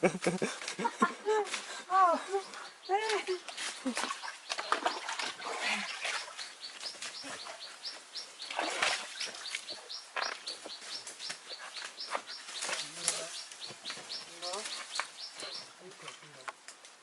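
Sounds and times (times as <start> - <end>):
bird chirping: 2.2 - 16.2.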